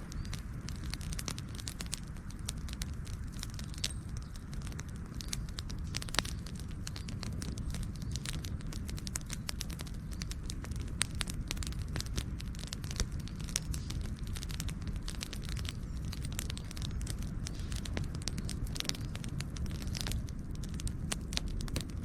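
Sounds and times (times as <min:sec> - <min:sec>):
burning wood crackling and popping: 0:00.0 - 0:22.0
low rumble of flames: 0:00.0 - 0:22.0.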